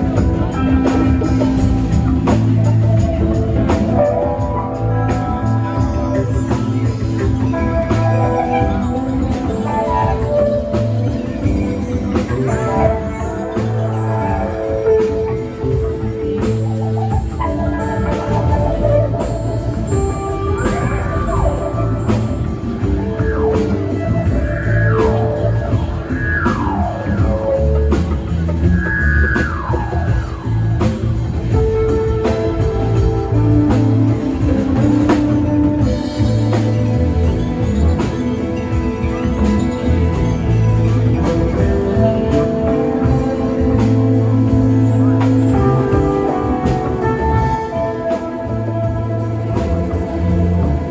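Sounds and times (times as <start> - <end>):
live rock band playing: 0.0 - 50.9.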